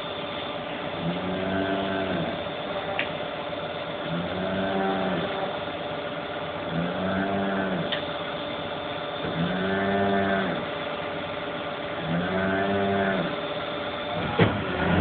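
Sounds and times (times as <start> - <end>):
motor humming: 0.0 - 15.0
rising and falling whine: 0.0 - 15.0.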